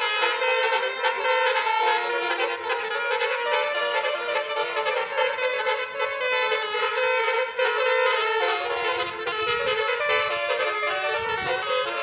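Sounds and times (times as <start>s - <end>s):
musical air horns playing a tune: 0.0s - 12.0s.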